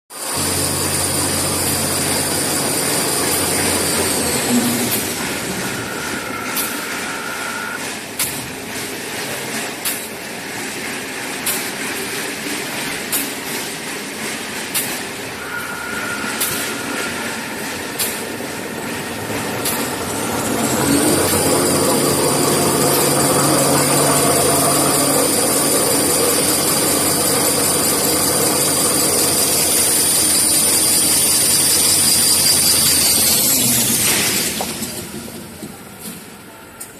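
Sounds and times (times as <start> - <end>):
high machine whine: 0.1 - 8.1, 14.9 - 36.9
machine mechanical din: 0.3 - 9.7, 11.4 - 36.3.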